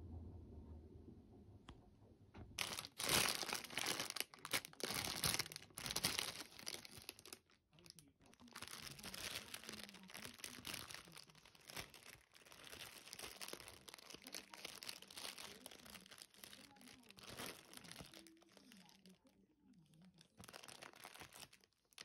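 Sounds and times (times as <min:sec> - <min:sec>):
plastic wrapper crinkling: 0:02.6 - 0:22.0.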